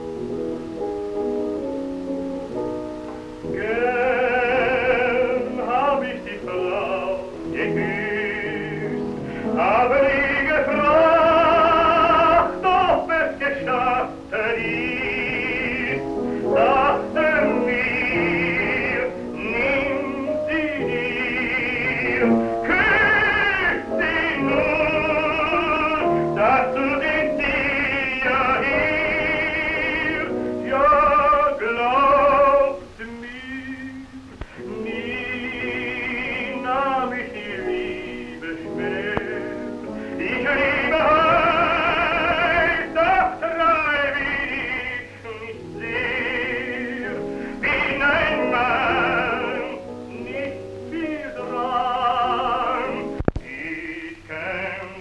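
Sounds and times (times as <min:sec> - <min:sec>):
piano accompaniment: 0:00.0 - 0:55.0
man singing tenor with vibrato: 0:03.4 - 0:55.0.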